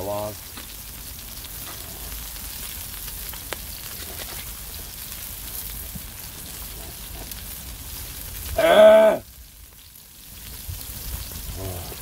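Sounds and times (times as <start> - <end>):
pork sizzling on griddle: 0.0 - 12.0.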